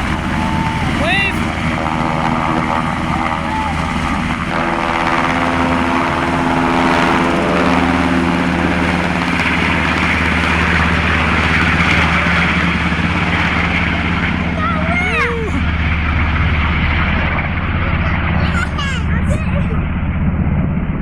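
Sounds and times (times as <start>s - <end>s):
helicopter rotor and engine hum: 0.0s - 21.0s.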